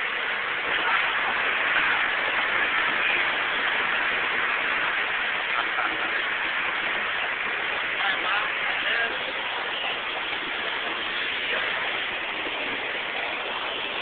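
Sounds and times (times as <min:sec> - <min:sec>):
industrial hall rushing noise: 0:00.0 - 0:14.0.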